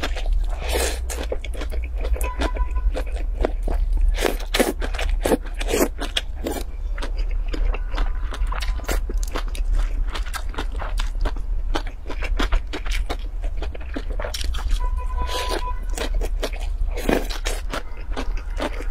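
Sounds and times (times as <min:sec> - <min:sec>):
slurping and chewing noodles: 0:00.0 - 0:18.9.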